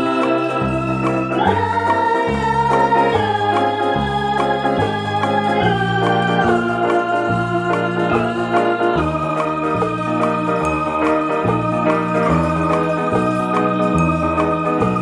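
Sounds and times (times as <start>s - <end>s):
organ chords over bass line: 0.0s - 15.0s.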